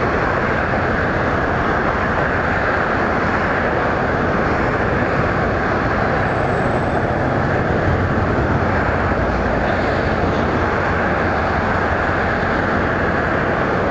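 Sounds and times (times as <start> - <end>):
road traffic rumble: 0.0 - 13.9.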